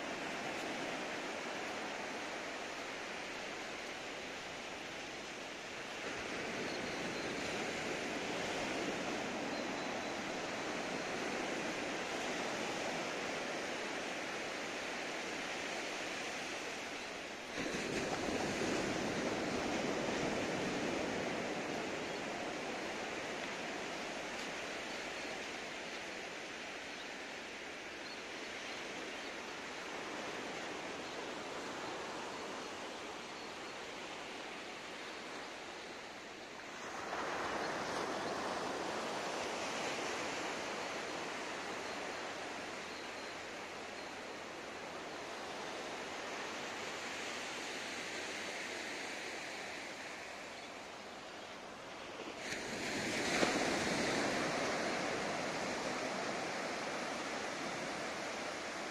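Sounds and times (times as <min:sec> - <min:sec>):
surf washing onto beach: 0:00.0 - 0:58.9.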